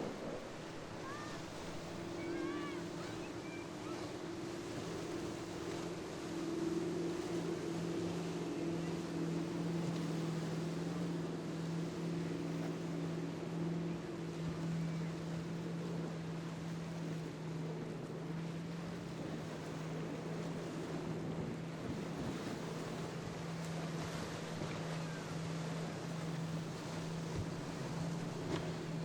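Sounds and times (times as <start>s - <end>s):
motorboat engine drone: 0.0s - 29.0s
surf: 0.0s - 29.0s.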